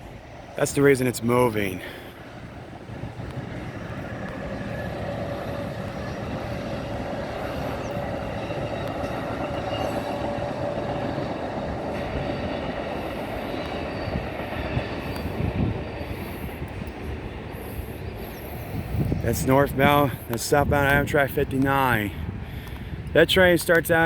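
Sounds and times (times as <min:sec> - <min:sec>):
train rumbling past on rails: 0:00.0 - 0:24.0.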